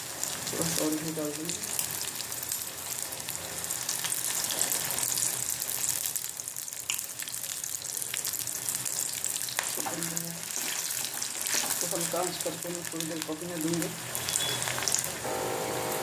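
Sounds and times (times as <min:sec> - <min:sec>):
ginger sizzling in a pan: 0:00.0 - 0:16.0.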